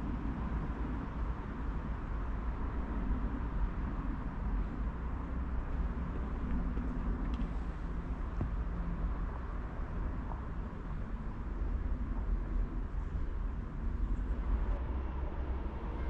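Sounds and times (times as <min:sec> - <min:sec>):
freight train rumbling on track: 0:00.0 - 0:16.0.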